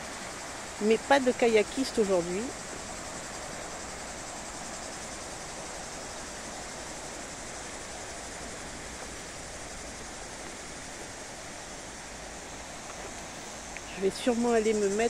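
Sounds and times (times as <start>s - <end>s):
insects shrilling: 0.1s - 15.0s.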